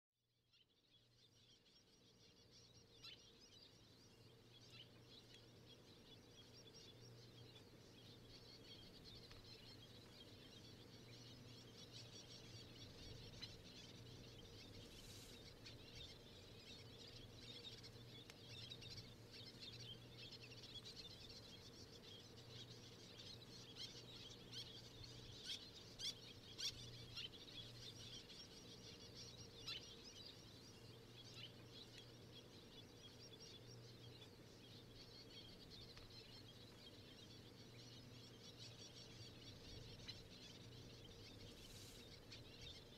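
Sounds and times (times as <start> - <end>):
low steady hum: 0.4 - 42.9
distant waterbirds chattering: 1.0 - 42.9.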